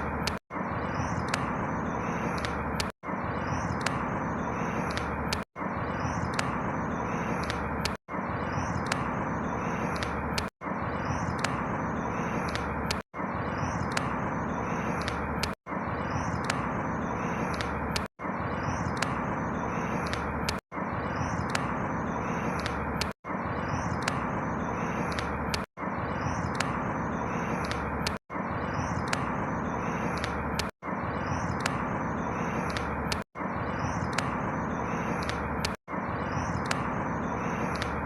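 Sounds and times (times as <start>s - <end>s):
high bird chirps: 0.0s - 38.0s.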